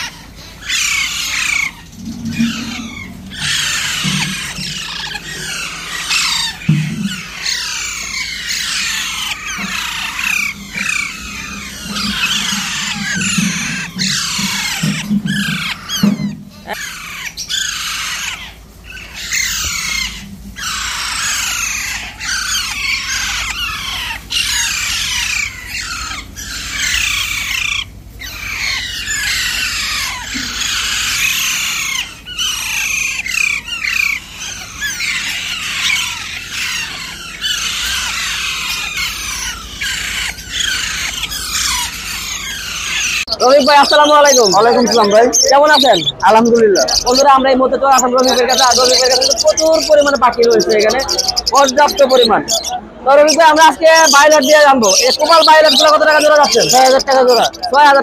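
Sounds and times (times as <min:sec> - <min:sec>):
parrots chattering and squawking: 0:00.0 - 0:58.0.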